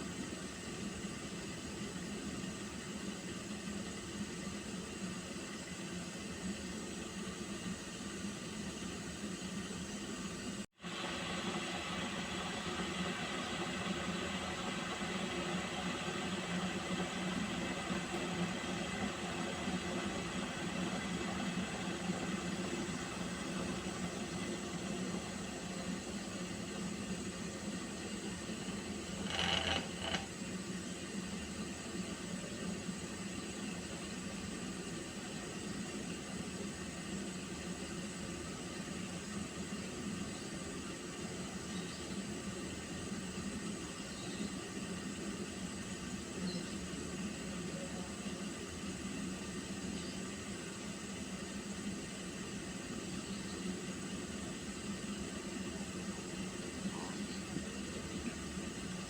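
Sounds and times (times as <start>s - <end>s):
water heating hiss: 0.0s - 59.0s.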